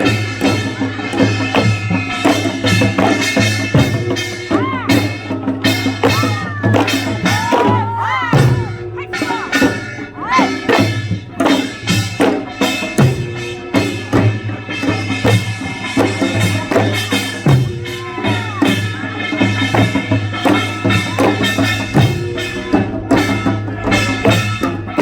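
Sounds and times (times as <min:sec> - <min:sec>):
drum strokes: 0:00.0 - 0:25.0.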